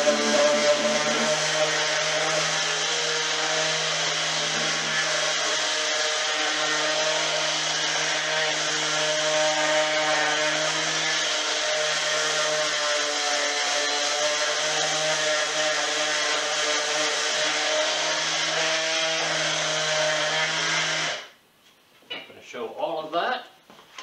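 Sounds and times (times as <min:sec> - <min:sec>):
orbital sander sanding wood: 0:00.0 - 0:21.2.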